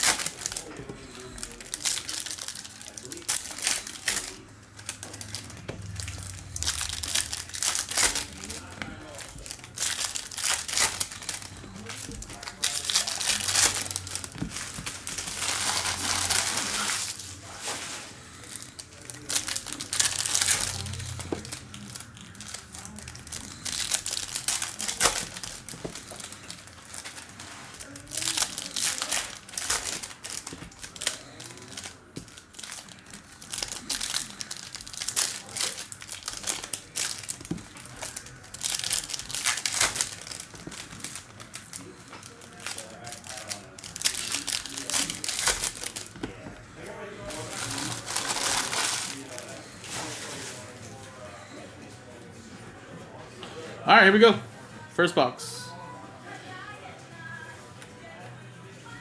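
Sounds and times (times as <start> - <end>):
card pack wrappers crinkling and tearing: 0.0 - 50.7.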